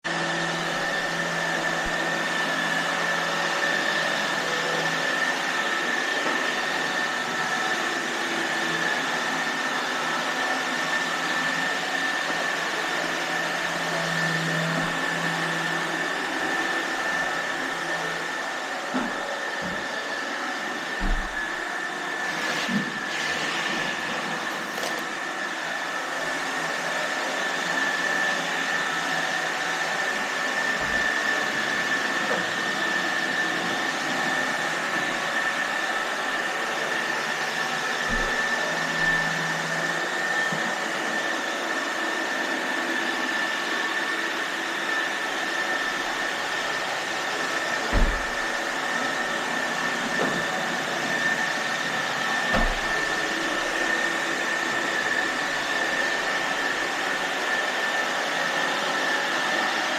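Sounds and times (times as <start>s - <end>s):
robot vacuum whirring: 0.1s - 59.9s.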